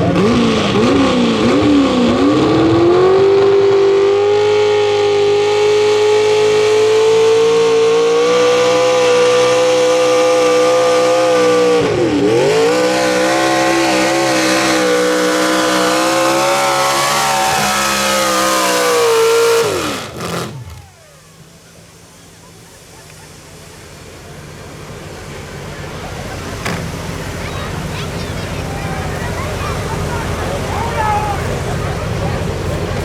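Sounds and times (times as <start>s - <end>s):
truck engine at high revs: 0.0s - 33.0s.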